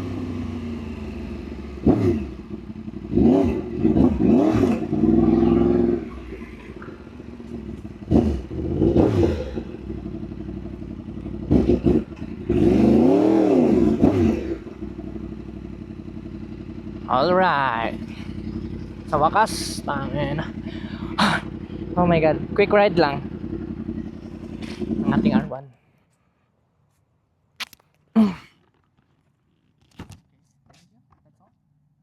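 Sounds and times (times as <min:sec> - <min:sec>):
motorcycle engine idling and revving: 0:00.0 - 0:26.3.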